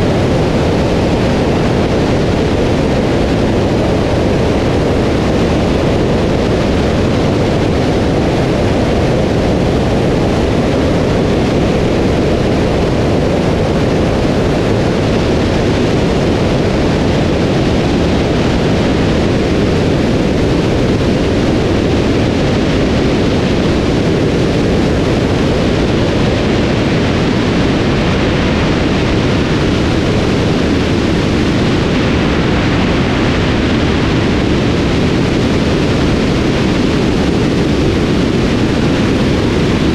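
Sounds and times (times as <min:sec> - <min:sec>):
aircraft engine and propeller drone: 0:00.0 - 0:39.9
wind rushing over camera: 0:00.0 - 0:39.9.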